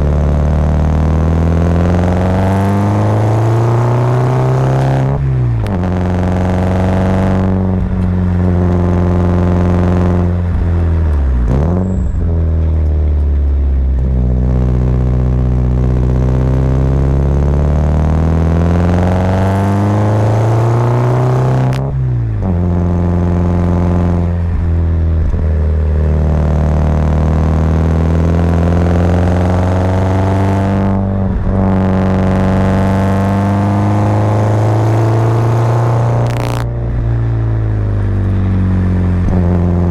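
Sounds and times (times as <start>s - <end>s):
car engine revving uphill: 0.0s - 39.9s.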